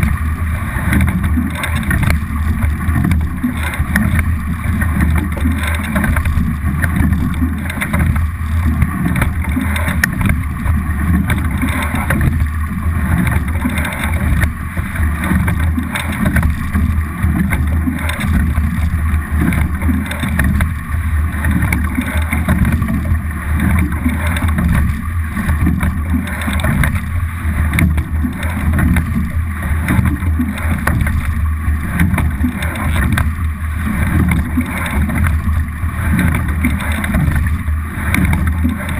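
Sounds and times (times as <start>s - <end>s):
water rushing along hull: 0.0s - 38.9s.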